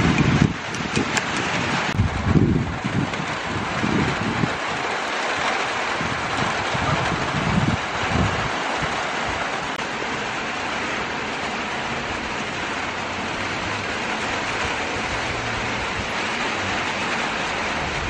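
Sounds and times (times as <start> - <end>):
wind buffeting microphone: 0.0 - 10.4, 11.1 - 18.0
rain falling: 0.0 - 18.0.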